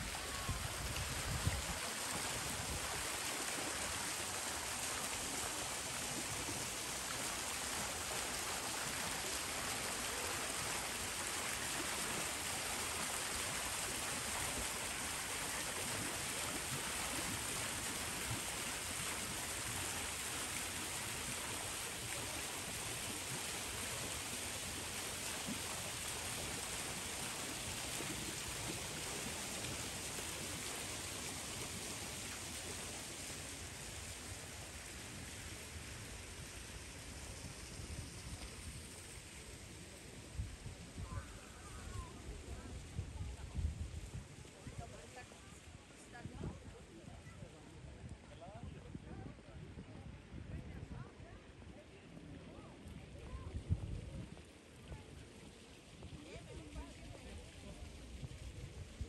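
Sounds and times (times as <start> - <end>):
running water splashing: 0.0 - 46.7, 54.1 - 59.0.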